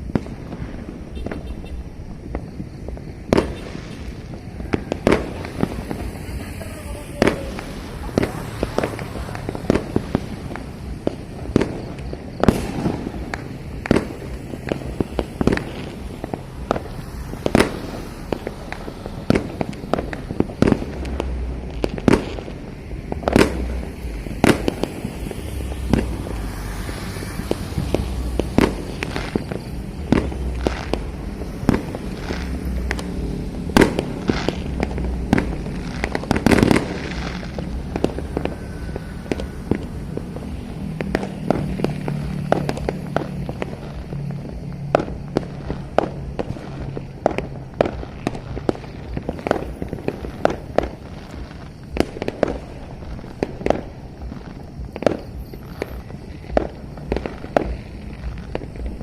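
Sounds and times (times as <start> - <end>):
distant fireworks rumble: 0.0 - 59.0
fireworks bangs and pops: 0.0 - 59.0.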